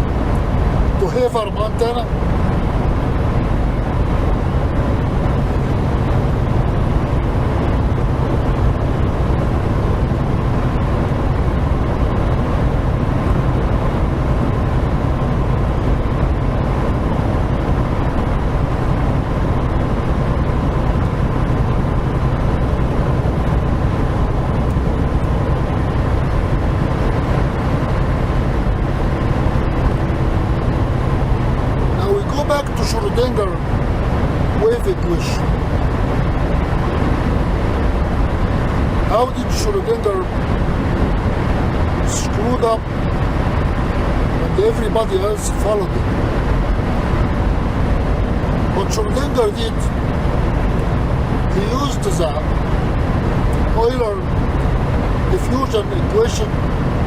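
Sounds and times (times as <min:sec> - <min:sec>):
road noise: 0:00.0 - 0:57.0
truck engine drone: 0:00.0 - 0:57.0.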